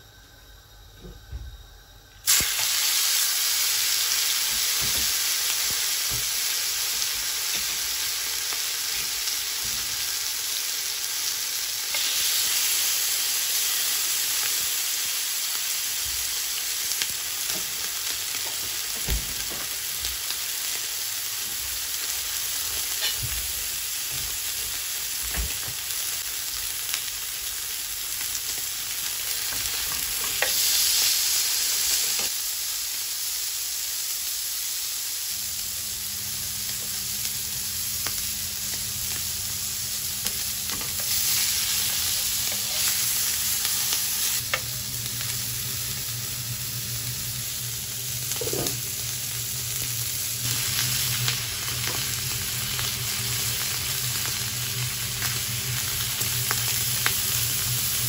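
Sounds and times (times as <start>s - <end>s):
steaks sizzling in a pan: 2.2s - 58.0s.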